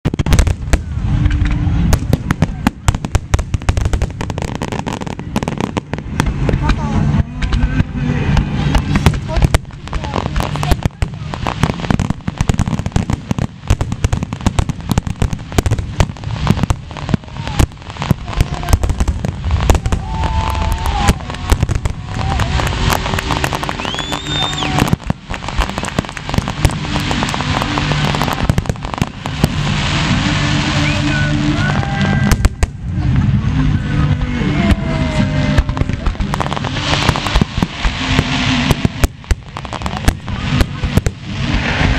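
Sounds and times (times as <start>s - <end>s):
fireworks bangs and crackle: 0.0s - 41.9s.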